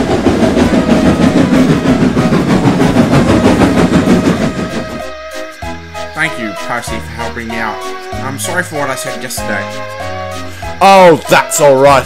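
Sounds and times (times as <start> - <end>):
train wagons rattling on track: 0.0 - 12.0.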